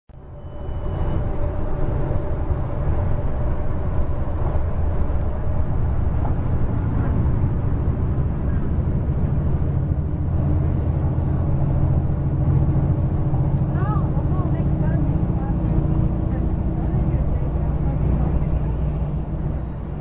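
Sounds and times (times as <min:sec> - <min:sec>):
bus engine rumble: 0:00.1 - 0:20.0.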